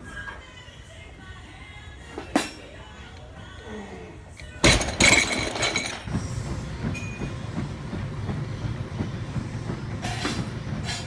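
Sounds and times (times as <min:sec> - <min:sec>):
low rumble of gym room noise: 0:00.0 - 0:11.0.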